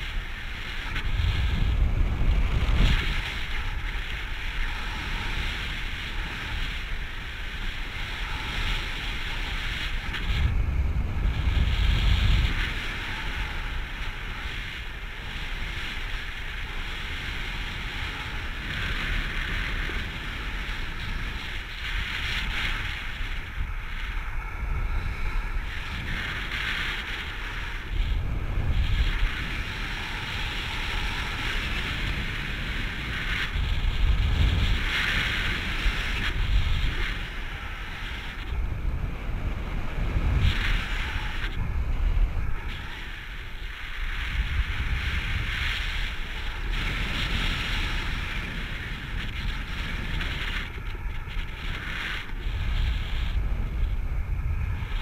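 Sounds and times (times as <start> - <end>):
low rumbling wind gusts: 0.0 - 55.0
wind buffeting microphone: 0.0 - 55.0.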